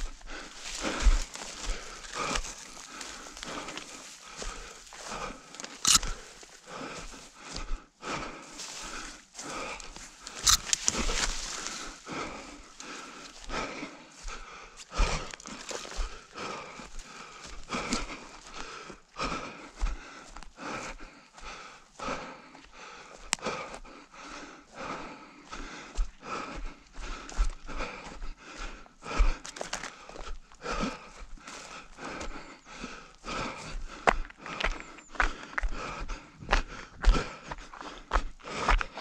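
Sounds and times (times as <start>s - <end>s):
footsteps running on rough ground: 0.0s - 39.0s
hard breathing: 0.0s - 39.0s.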